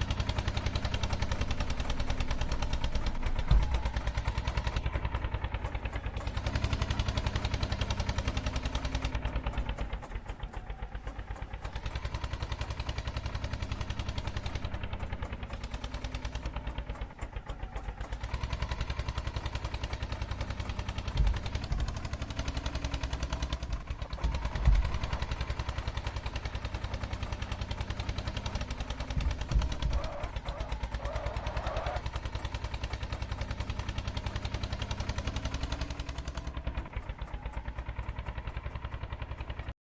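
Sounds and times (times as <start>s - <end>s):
sharp knocks and rattles: 0.0s - 39.7s
tractor diesel engine chugging: 0.0s - 39.8s.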